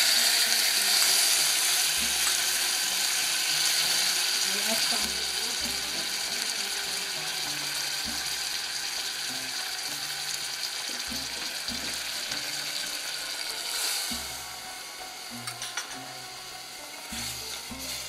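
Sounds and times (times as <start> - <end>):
garlic sizzling in hot oil: 0.0 - 18.0.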